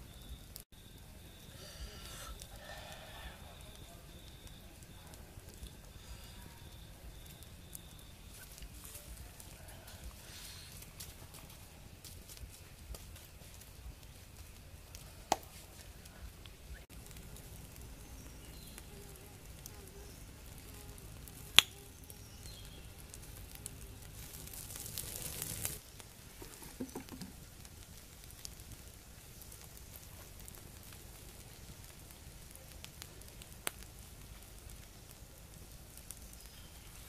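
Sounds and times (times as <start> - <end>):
fire crackling: 0.0 - 37.0
sizzling hiss: 0.0 - 37.0.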